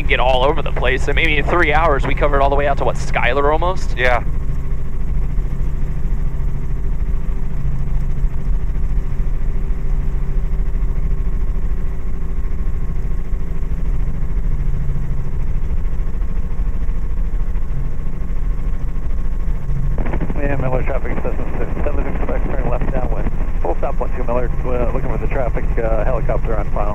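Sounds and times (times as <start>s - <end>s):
helicopter engine and rotors droning: 0.0s - 26.9s.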